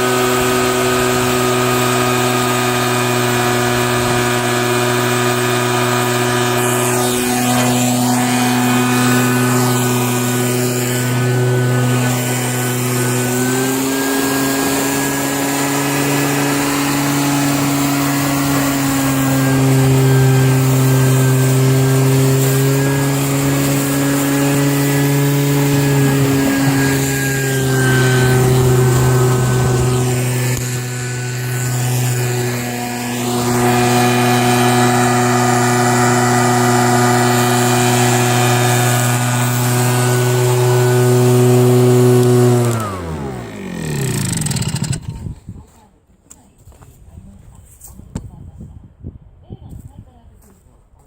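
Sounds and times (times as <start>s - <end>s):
leaf vacuum motor humming: 0.0s - 45.3s.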